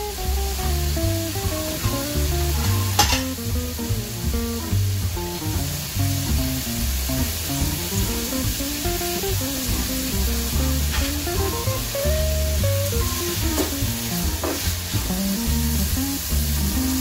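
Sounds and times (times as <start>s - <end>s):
background music: 0.0s - 17.0s
onions and peppers sizzling in a pan: 0.0s - 17.0s
metal spatula stir-frying: 1.4s - 3.6s, 5.4s - 17.0s.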